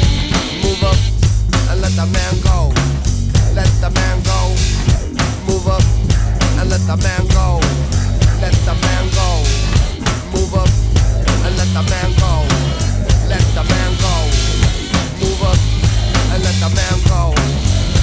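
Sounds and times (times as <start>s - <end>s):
drum kit beat: 0.0s - 18.0s
heavy repeating bass line: 0.0s - 18.0s.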